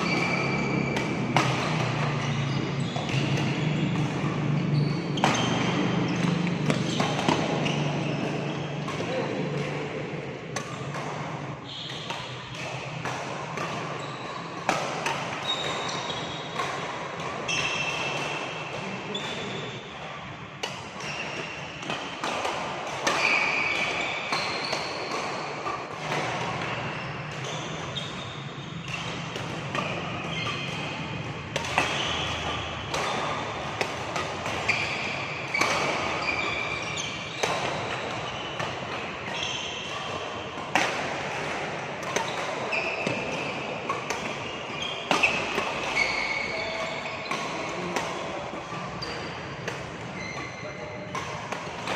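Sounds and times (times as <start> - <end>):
rackets hitting shuttlecock: 0.0 - 51.9
shoes squeaking on court floor: 0.0 - 51.9.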